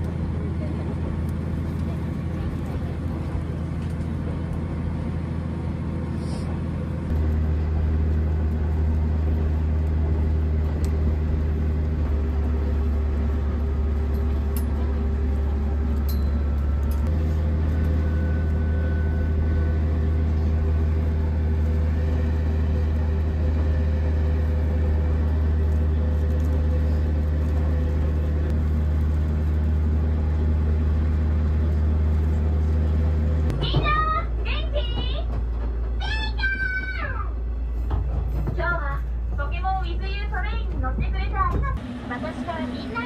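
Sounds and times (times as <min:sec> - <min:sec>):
diesel railcar engine drone: 0:00.0 - 0:43.0.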